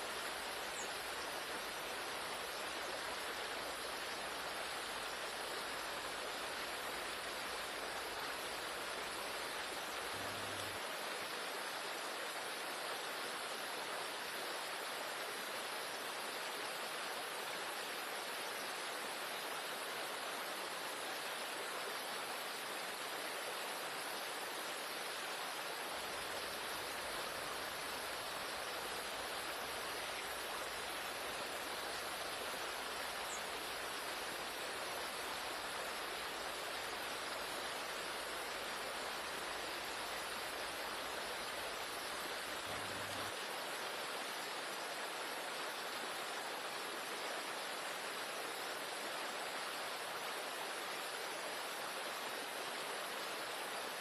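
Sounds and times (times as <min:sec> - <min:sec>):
stream water rushing over stones: 0:00.0 - 0:54.0.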